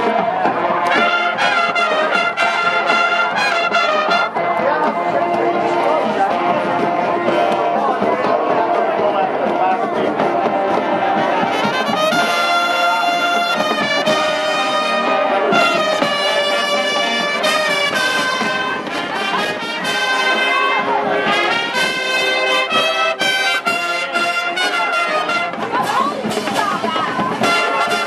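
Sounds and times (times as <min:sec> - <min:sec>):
brass and saxophone chords: 0:00.0 - 0:28.0
marching drums: 0:00.0 - 0:28.0.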